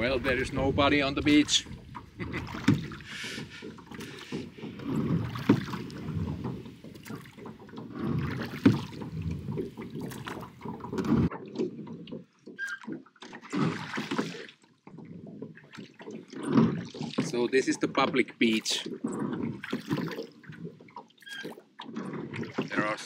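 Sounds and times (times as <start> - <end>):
oars knocking on boat: 0.0 - 23.0
rushing water: 0.0 - 23.0
wind: 0.0 - 23.0.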